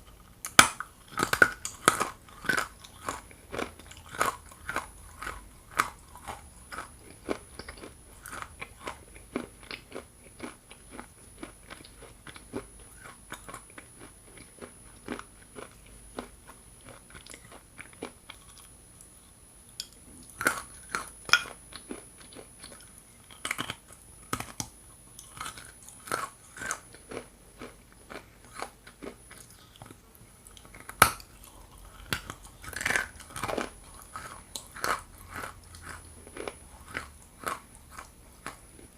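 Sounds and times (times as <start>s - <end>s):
crunching and chewing clay: 0.0s - 19.1s, 20.0s - 38.9s.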